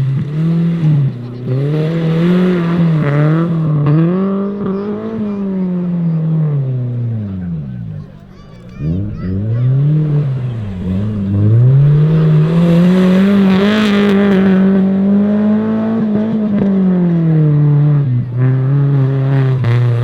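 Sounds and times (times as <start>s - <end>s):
engine revving hard: 0.0s - 8.0s, 8.7s - 20.0s.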